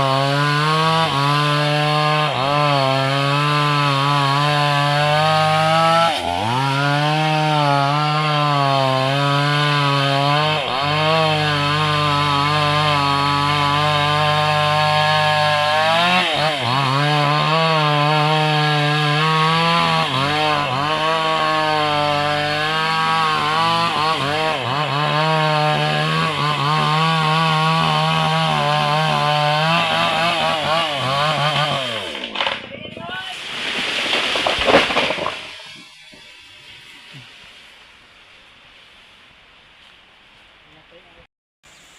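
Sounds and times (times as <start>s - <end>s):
chainsaw cutting into tree: 0.0s - 37.8s.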